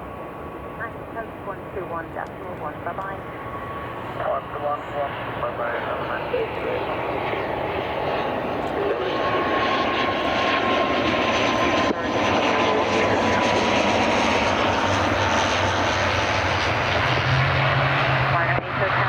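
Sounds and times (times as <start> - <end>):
airliner engines passing: 0.0 - 19.0
thin engine whine: 3.1 - 19.0.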